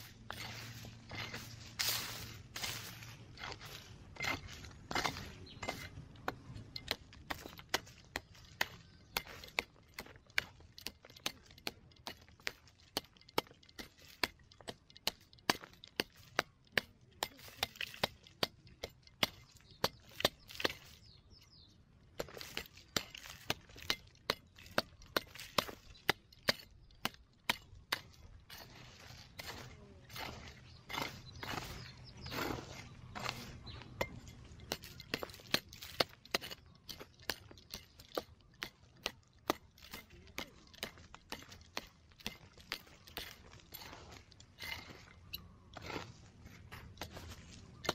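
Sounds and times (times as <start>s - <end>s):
metal tool chopping into dry soil: 0.0s - 21.2s, 22.1s - 47.9s.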